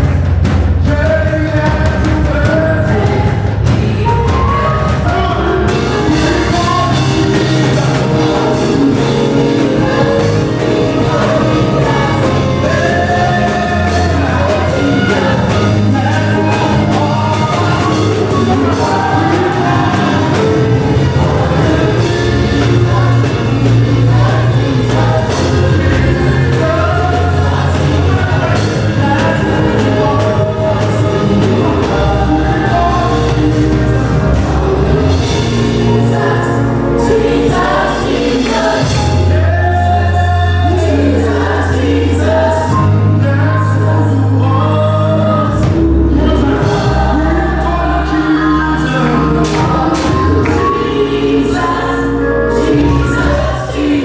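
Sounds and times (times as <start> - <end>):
choir singing gospel: 0.0 - 54.0
steady bass accompaniment: 0.0 - 54.0.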